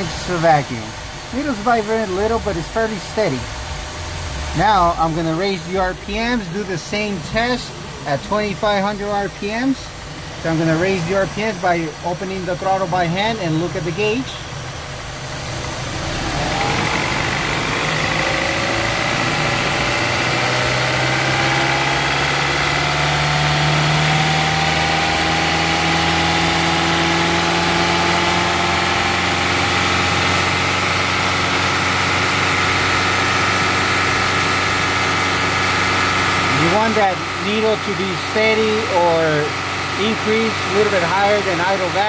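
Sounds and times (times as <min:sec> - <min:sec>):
car engine revving up: 0:00.0 - 0:42.0.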